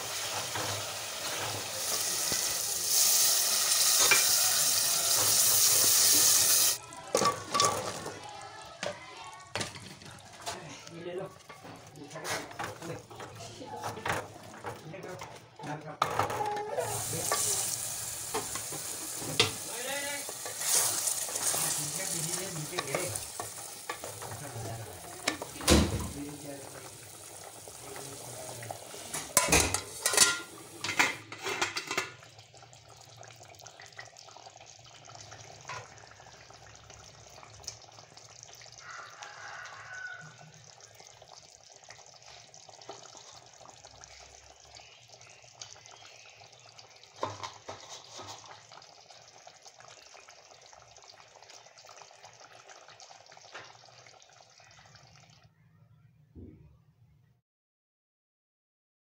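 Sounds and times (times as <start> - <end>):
pot bubbling at a simmer: 0.0 - 55.6.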